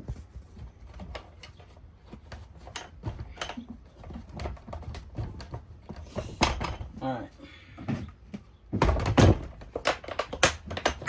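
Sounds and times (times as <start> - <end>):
plastic parts clicking and knocking: 0.0 - 7.0, 7.9 - 11.0.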